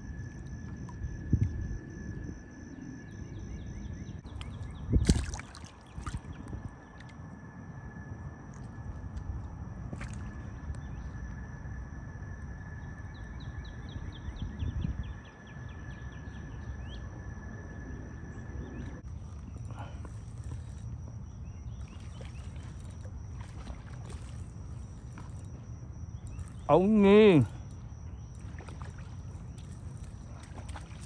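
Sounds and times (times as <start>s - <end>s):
wind and water rumble: 0.0s - 31.0s.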